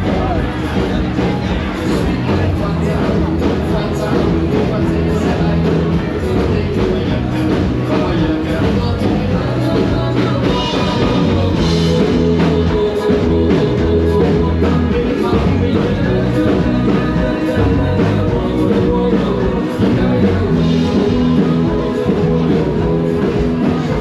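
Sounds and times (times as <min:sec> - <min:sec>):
rock music with singer: 0:00.0 - 0:24.0.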